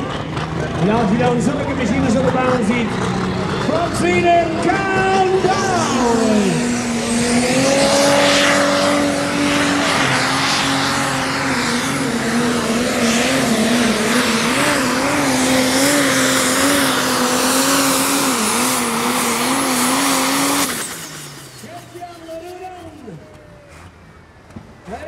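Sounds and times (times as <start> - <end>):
diesel engine at full throttle: 0.0 - 25.0.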